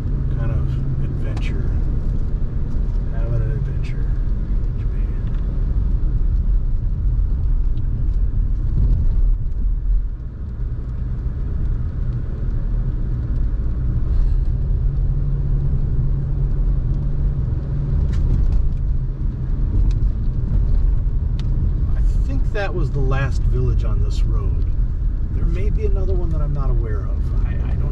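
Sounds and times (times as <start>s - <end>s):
car engine rumble: 0.0s - 27.9s
tyres on road: 0.0s - 27.9s.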